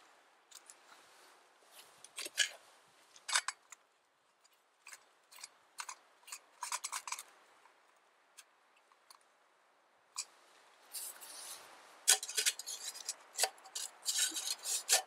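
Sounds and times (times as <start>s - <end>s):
metallic clicks and scrapes: 0.5s - 1.1s, 1.7s - 9.3s, 10.1s - 15.0s.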